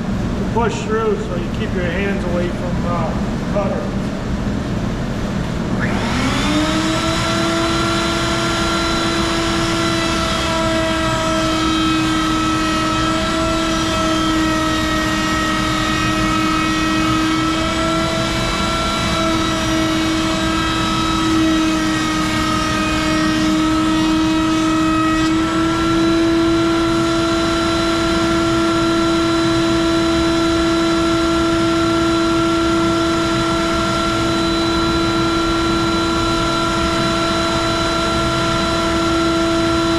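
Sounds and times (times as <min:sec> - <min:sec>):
wood router whining: 0:05.6 - 0:39.9.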